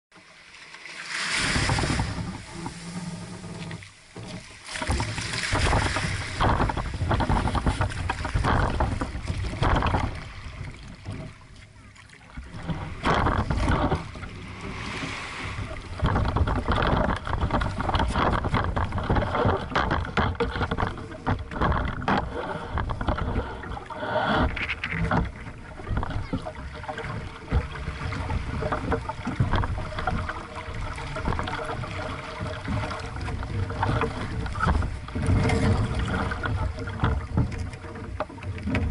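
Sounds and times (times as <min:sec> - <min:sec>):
boat hull splashing in surf: 0:00.2 - 0:38.9
wind rumble on microphone: 0:01.4 - 0:03.8, 0:04.8 - 0:11.4, 0:12.4 - 0:38.9.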